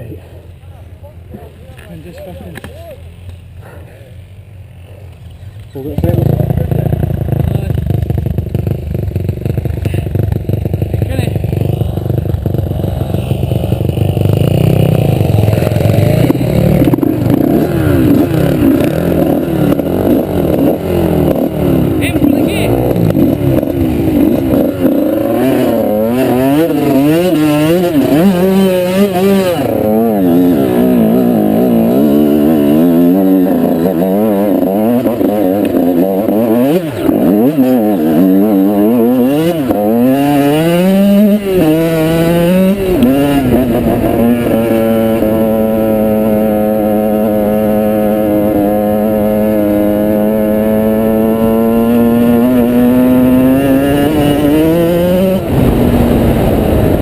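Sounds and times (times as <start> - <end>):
motorbike engine revving: 1.8 - 57.0.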